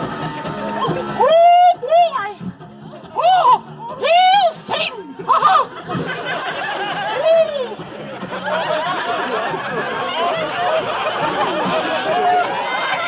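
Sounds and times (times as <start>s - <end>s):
audience laughing and chattering: 0.0s - 13.0s.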